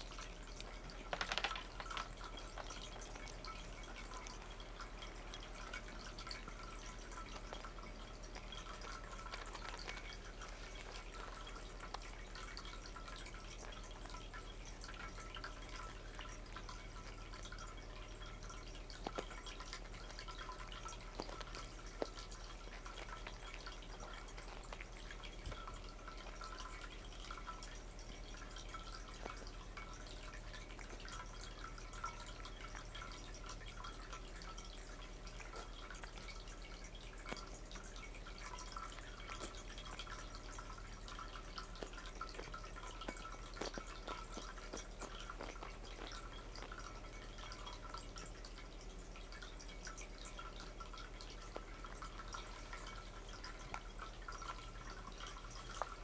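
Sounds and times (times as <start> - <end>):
cats licking and eating: 0.0 - 56.0.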